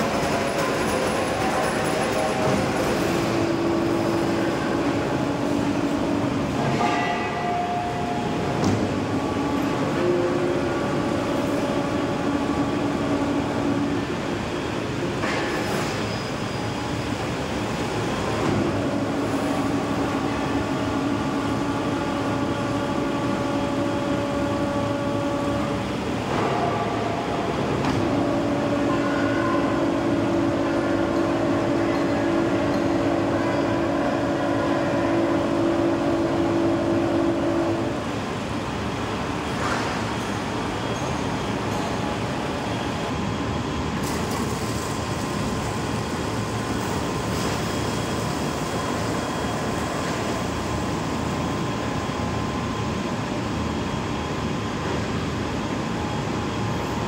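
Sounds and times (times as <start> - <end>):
lathes and machines running: 0.0 - 57.0.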